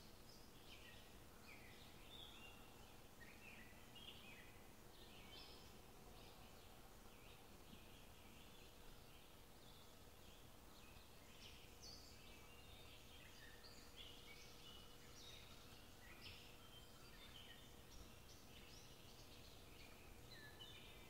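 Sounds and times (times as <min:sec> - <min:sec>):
small birds chirping and trilling: 0:00.0 - 0:21.0
steady background hiss: 0:00.0 - 0:21.0.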